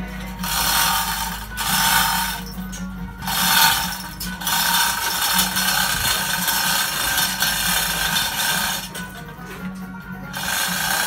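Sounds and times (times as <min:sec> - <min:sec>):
chain rattling through hoist: 0:00.4 - 0:09.2, 0:10.4 - 0:11.0.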